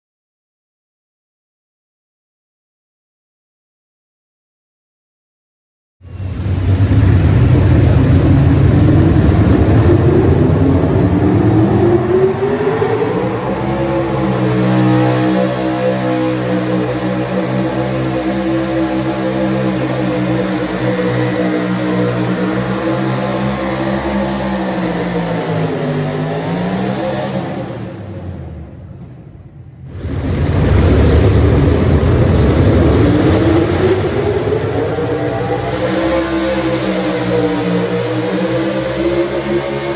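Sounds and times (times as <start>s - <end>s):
truck engine revving under load: 6.2s - 39.9s.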